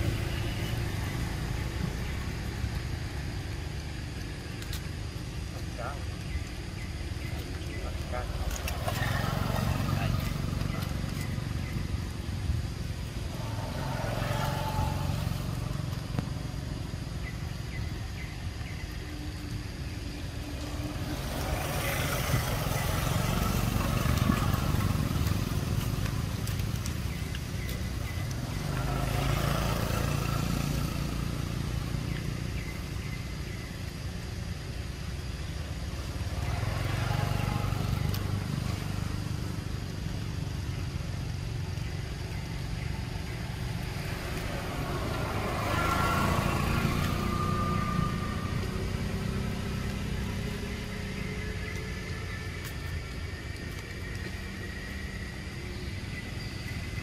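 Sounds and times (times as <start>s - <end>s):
motor vehicles passing: 0.0s - 57.0s.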